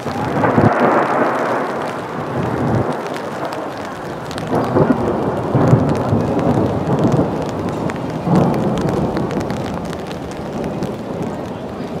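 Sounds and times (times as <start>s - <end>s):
rolling thunder rumble: 0.0s - 12.0s
steady rain: 0.0s - 12.0s.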